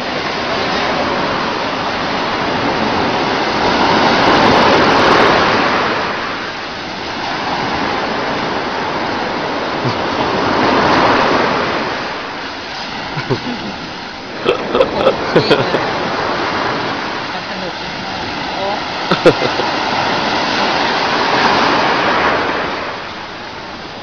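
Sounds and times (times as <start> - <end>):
sea surf breaking: 0.0 - 24.0.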